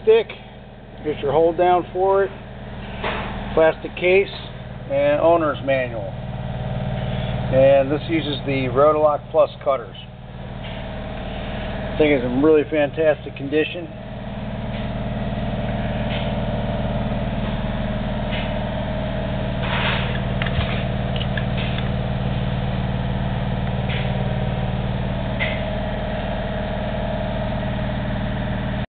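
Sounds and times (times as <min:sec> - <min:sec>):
magnetic drill press motor humming: 0:00.0 - 0:28.9.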